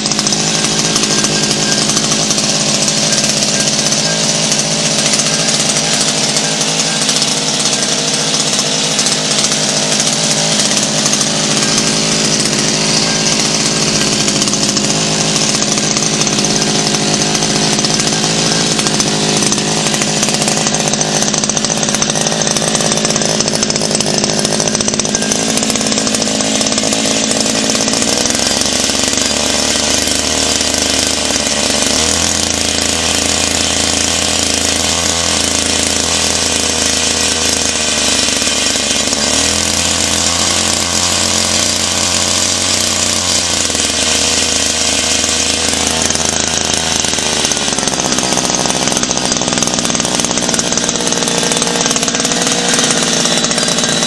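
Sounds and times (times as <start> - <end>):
two-stroke engine running: 0.0 - 54.0.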